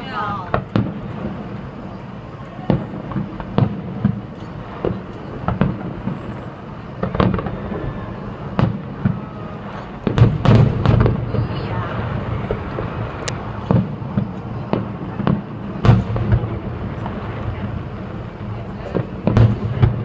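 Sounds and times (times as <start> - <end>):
distant fireworks booming: 0.0 - 20.0.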